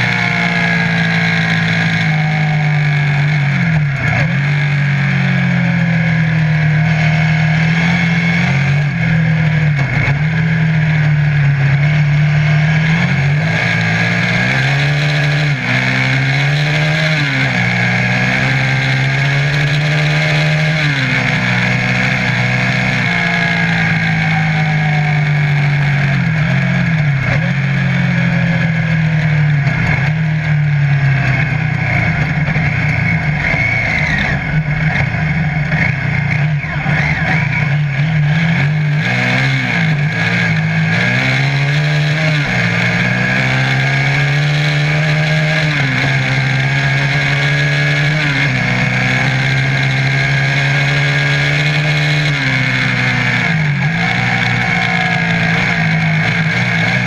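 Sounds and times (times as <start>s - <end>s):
buggy engine revving: 0.0s - 57.0s
wind and tyre noise: 0.0s - 57.0s.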